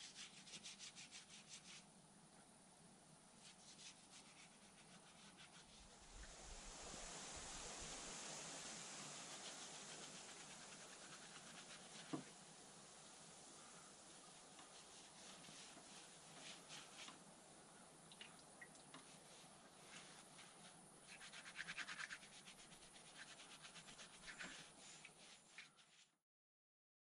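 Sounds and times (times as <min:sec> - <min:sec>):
brush scrubbing on wood: 0:00.0 - 0:01.9, 0:03.4 - 0:17.3, 0:18.9 - 0:26.2.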